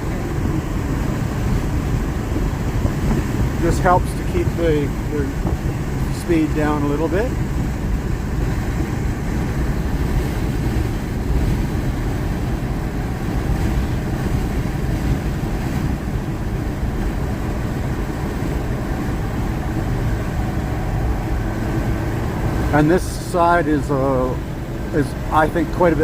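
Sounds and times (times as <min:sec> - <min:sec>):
vehicle engine braking: 0:00.0 - 0:26.0.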